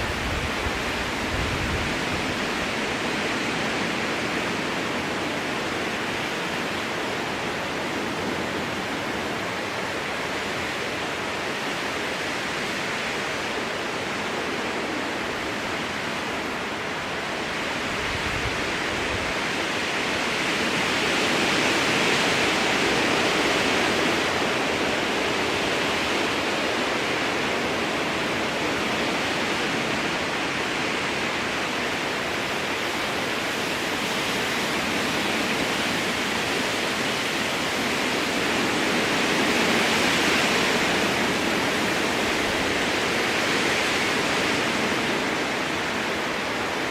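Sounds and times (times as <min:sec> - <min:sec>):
wind rumble on microphone: 0:00.0 - 0:46.9
wind through forest: 0:00.0 - 0:46.9.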